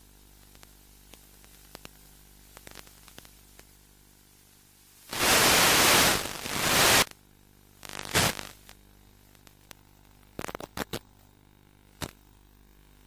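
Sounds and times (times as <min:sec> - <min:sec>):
radio static hiss: 0:00.0 - 0:11.1
faint steady hum: 0:00.0 - 0:13.0.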